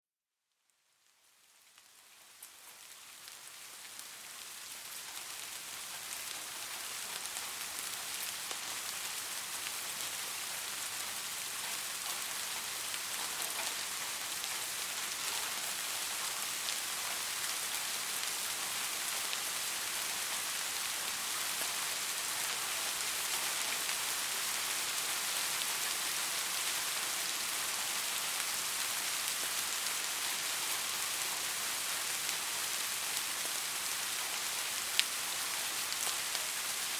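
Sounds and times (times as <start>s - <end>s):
steady rain falling: 0.8s - 36.9s.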